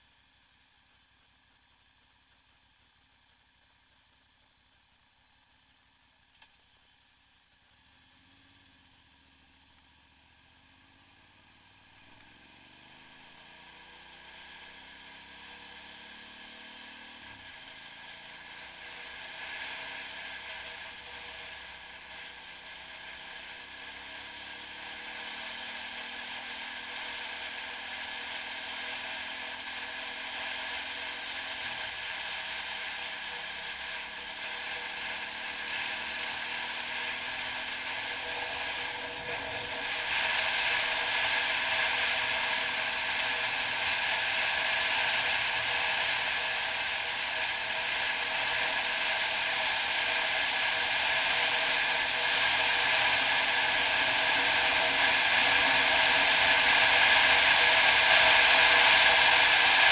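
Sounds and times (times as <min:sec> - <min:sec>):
motorcycle engine accelerating: 0:07.2 - 0:59.9
wind and road noise: 0:07.8 - 0:59.9.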